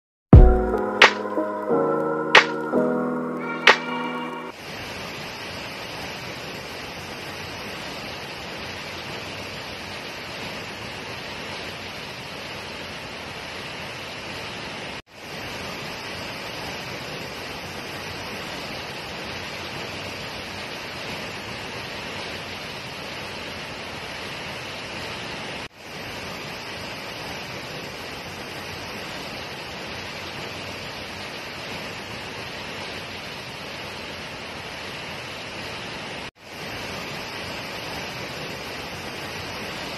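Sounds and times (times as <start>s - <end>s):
waterfall rushing: 0.4s - 39.9s.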